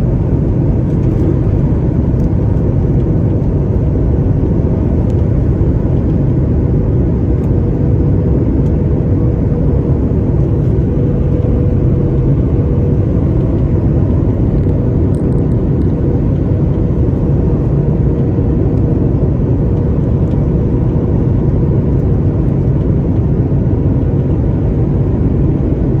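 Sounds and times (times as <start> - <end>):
airliner rumble: 0.0 - 26.0
faint constant hum: 0.0 - 26.0.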